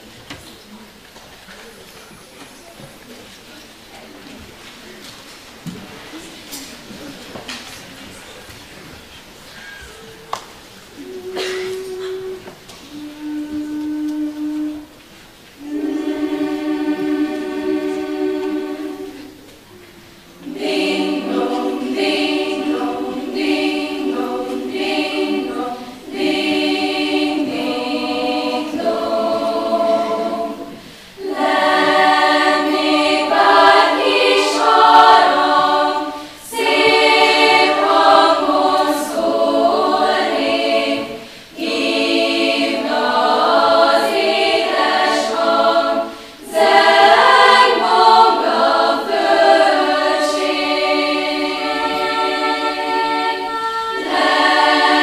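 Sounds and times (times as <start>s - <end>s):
choir singing unaccompanied: 8.7s - 55.0s.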